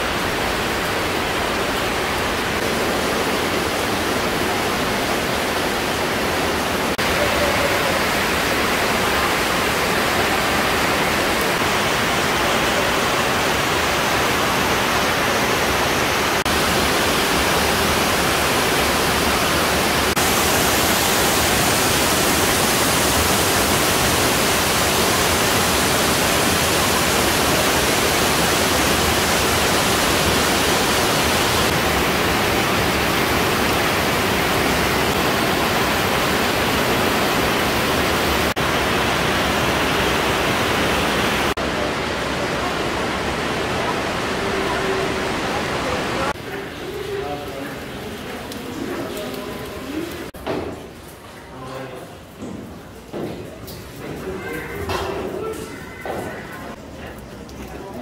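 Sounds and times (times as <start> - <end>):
water rushing in cave: 0.0 - 58.0.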